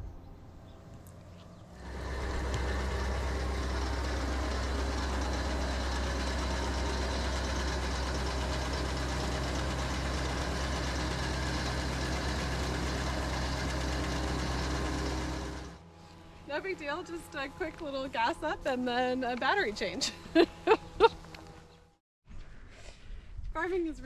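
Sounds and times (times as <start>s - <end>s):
engine droning: 0.0s - 22.0s.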